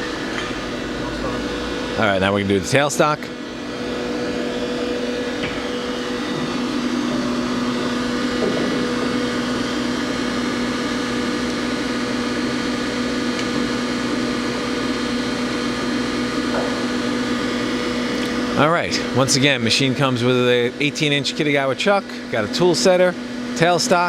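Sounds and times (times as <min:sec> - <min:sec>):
machine humming with steady tones: 0:00.0 - 0:24.0.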